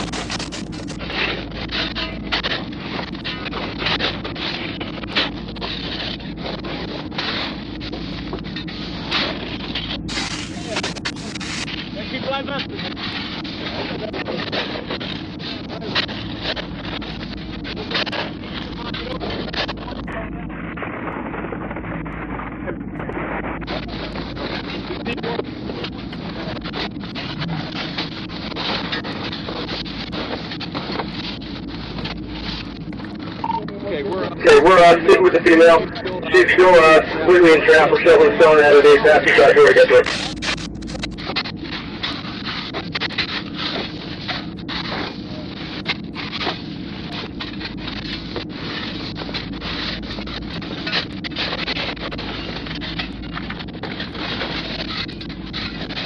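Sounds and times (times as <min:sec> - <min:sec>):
gravel being dug and shifted: 0:00.0 - 0:56.0
wind rumble on microphone: 0:00.0 - 0:56.0.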